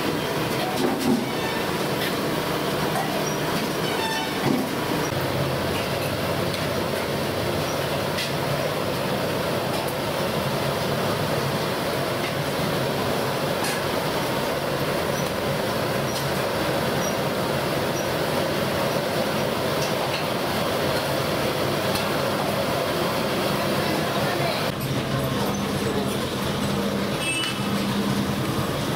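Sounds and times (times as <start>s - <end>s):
oil sizzling and bubbling: 0.0s - 28.9s.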